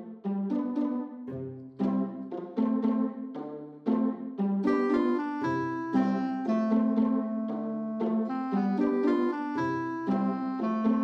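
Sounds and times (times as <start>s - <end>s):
light instrumental music: 0.0s - 11.0s.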